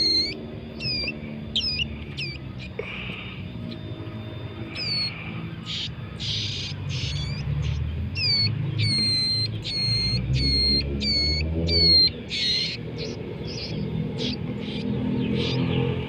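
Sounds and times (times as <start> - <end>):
sharp descending bird calls: 0.0 - 3.8, 4.6 - 16.0
bird chicks begging calls: 0.0 - 16.0.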